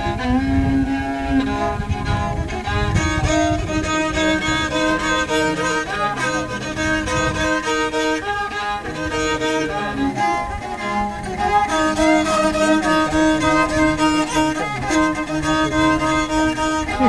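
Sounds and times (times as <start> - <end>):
fiddle playing melody: 0.0 - 17.0
lower accompaniment: 0.0 - 17.0.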